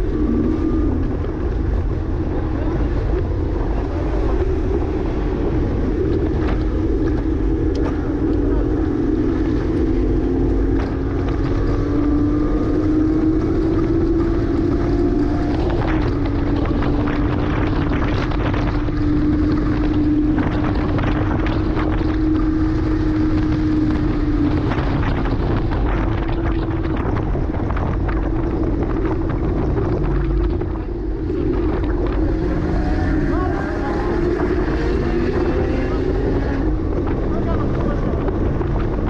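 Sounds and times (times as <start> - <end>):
car engine at high revs: 0.0 - 39.0
wind buffeting microphone: 0.0 - 39.0.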